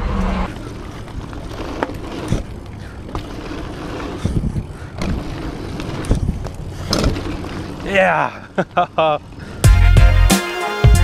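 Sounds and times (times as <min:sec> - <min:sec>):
bike tyres rolling on dirt: 0:00.0 - 0:09.6
bike knocking and rattling: 0:00.4 - 0:09.7.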